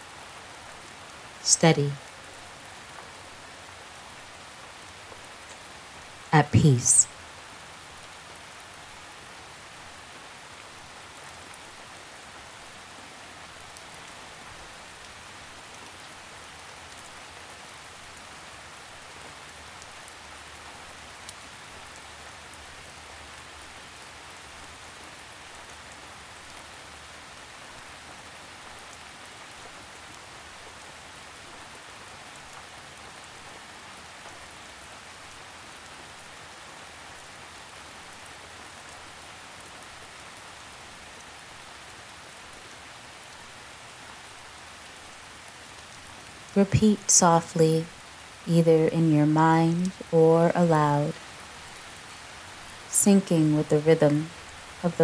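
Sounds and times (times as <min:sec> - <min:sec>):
rain pattering on leaves: 0:00.0 - 0:01.4, 0:02.0 - 0:06.3, 0:07.2 - 0:46.6, 0:47.9 - 0:48.5, 0:50.7 - 0:53.0, 0:54.0 - 0:54.8.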